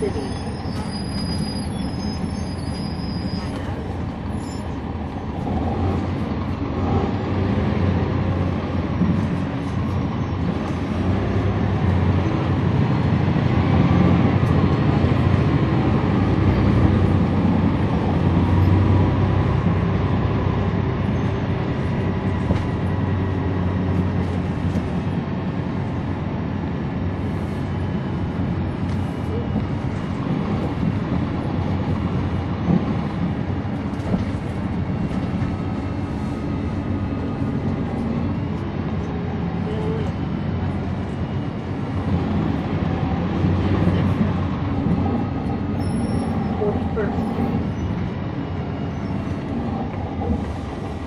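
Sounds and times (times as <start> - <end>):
bus diesel engine drone: 0.0 - 51.0
road noise: 0.0 - 51.0.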